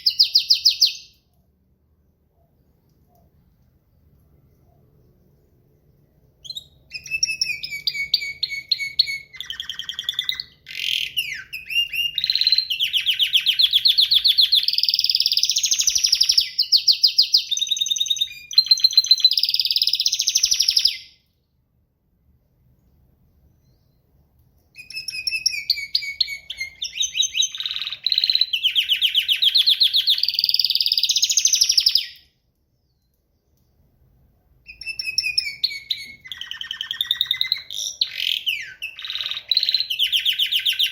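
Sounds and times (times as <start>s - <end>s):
songbird singing trills: 0.0s - 1.2s, 2.4s - 21.2s, 24.7s - 34.0s, 34.7s - 40.9s.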